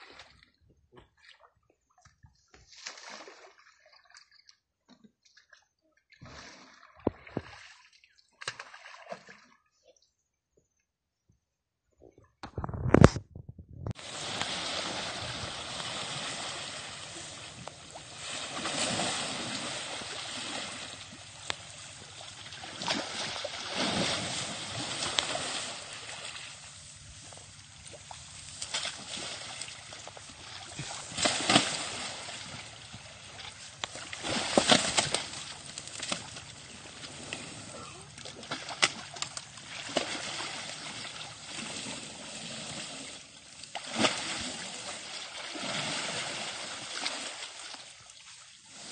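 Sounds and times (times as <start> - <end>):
water sloshing and splashing: 0.0 - 9.6, 13.8 - 48.9.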